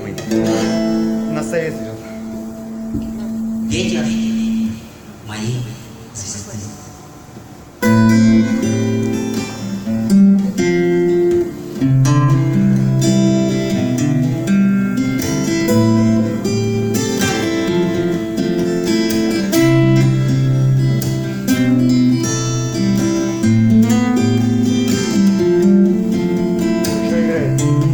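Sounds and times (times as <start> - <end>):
held bass notes: 0.0 - 5.2, 7.8 - 27.9
acoustic guitar instrumental: 0.0 - 5.3, 6.7 - 27.9.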